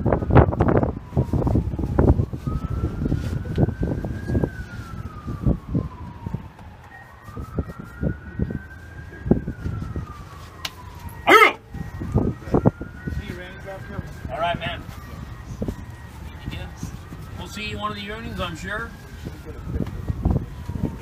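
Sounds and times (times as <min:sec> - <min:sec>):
distant siren wailing: 0:00.0 - 0:21.0.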